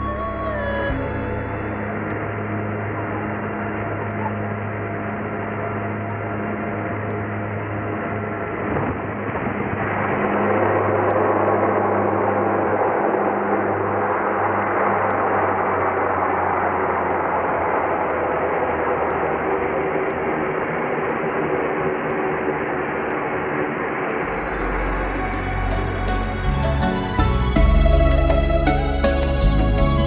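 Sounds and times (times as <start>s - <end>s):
turboprop engines droning: 0.0s - 30.0s.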